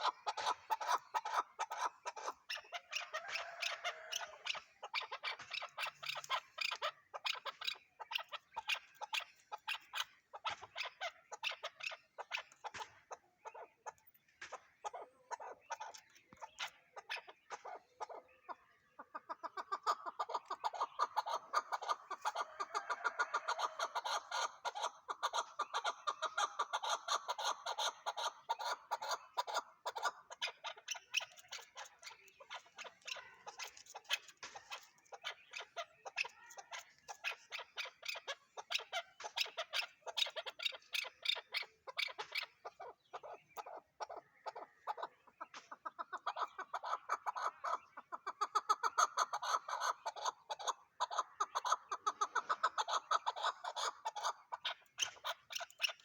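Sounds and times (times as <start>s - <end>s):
partridge clucking calls: 0.0s - 56.0s.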